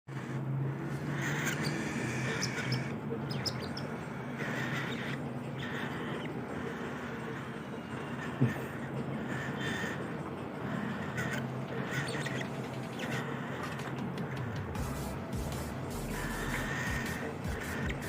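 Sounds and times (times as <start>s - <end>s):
baby bird raspy begging calls: 0.1s - 18.0s
steady low hum: 0.1s - 18.0s.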